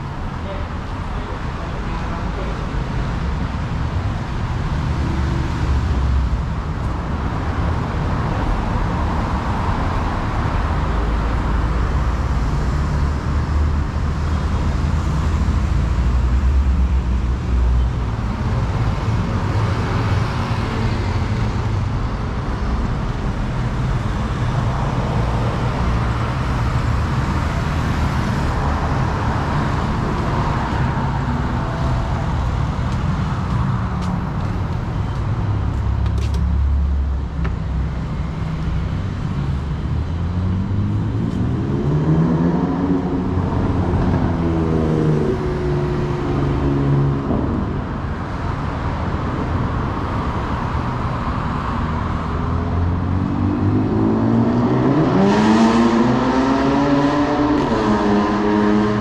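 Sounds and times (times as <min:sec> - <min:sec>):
vehicle engines rumbling: 0:00.0 - 0:59.0.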